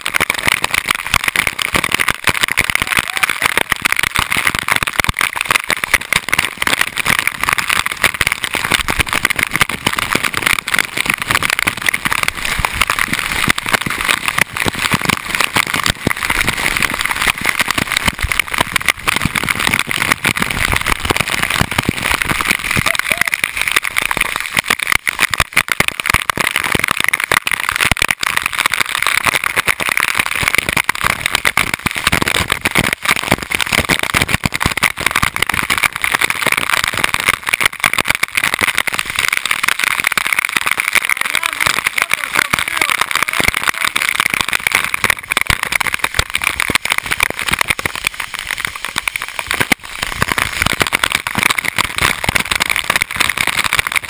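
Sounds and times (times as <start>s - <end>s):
water pouring on camera housing: 0.0s - 54.0s.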